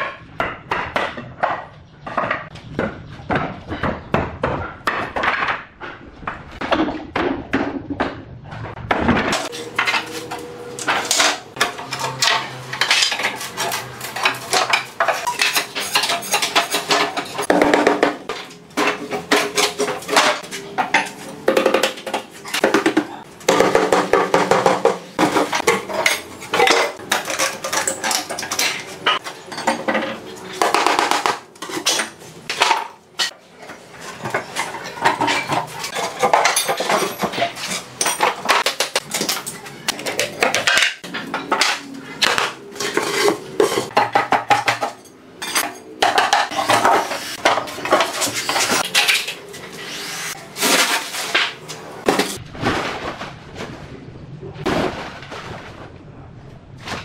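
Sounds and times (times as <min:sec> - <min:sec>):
planks clattering on concrete floor: 0:00.0 - 0:10.2, 0:10.8 - 0:33.4, 0:34.1 - 0:49.4.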